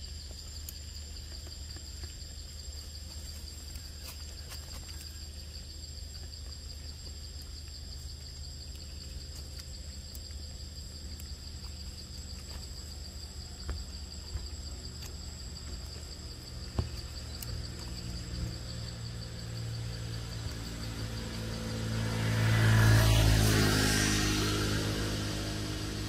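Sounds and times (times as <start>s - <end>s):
insect trill chorus: 0.0s - 26.0s.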